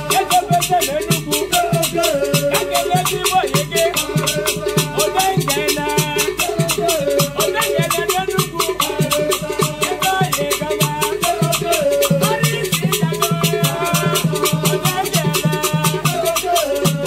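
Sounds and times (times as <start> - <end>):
fast beat music with melody: 0.0 - 17.0.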